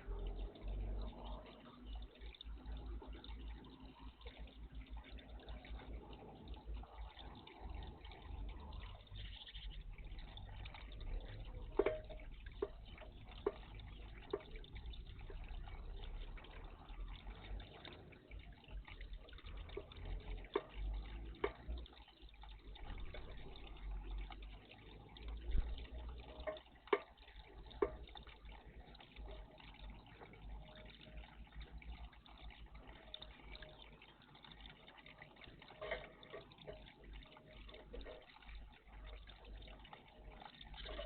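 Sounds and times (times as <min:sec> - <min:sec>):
water splashing in bird bath: 0:00.0 - 0:41.0.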